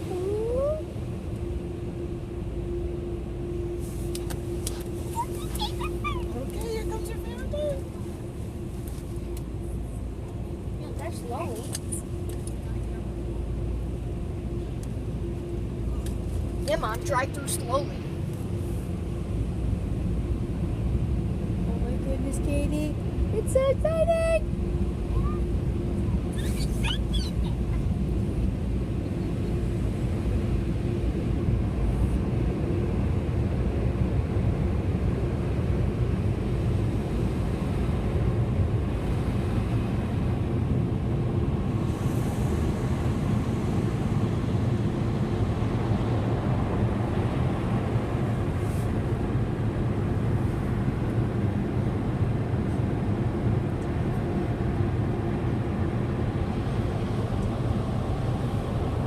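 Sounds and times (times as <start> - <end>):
car wash dryer blowers roaring: 0.0 - 12.2, 22.9 - 59.0.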